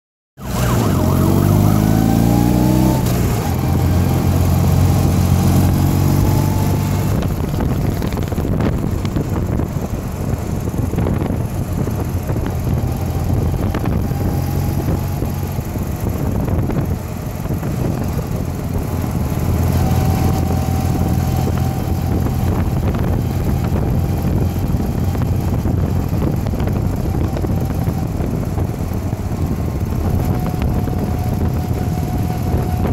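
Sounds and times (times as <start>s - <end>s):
motorcycle engine revving: 0.4s - 32.9s.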